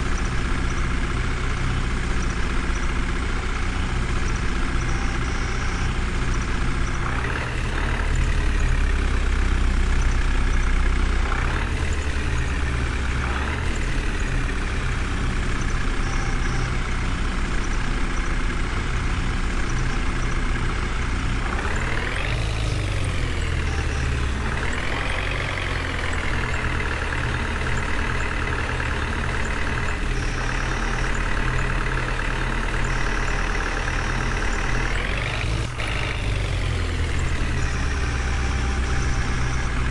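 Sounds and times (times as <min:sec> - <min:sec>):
heavy engine idling and revving: 0:00.0 - 0:39.9.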